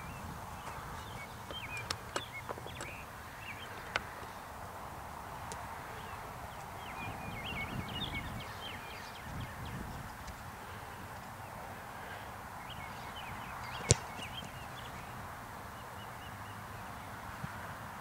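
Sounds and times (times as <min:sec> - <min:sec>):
low wind rumble: 0:00.0 - 0:16.0
birds chirping: 0:00.0 - 0:18.0.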